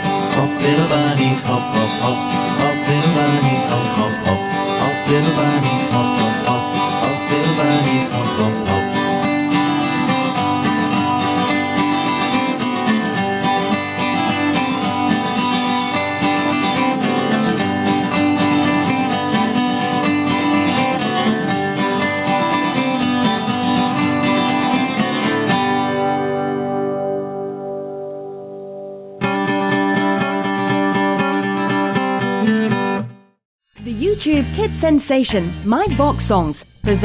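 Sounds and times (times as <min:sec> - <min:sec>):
strummed acoustic guitar: 0:00.0 - 0:33.3.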